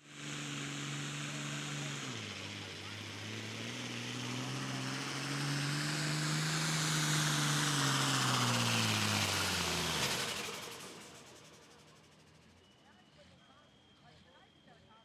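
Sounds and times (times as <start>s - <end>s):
tractor diesel engine under load: 0.0s - 12.3s.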